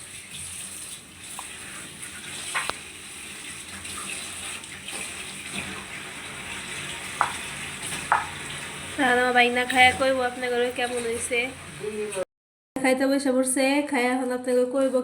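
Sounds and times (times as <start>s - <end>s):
oil sizzling in a pan: 0.0s - 12.2s.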